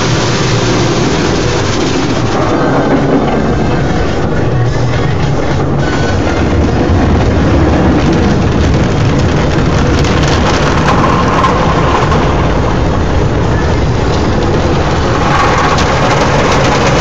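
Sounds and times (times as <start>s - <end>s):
water spraying on car: 0.0s - 17.0s.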